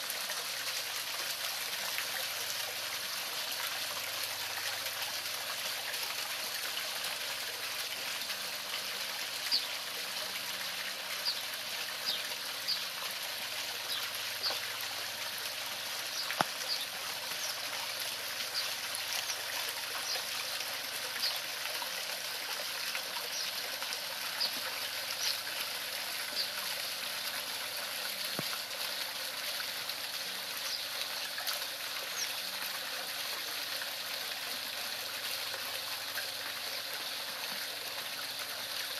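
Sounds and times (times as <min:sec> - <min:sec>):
waterfall splashing over rocks: 0:00.0 - 0:38.9.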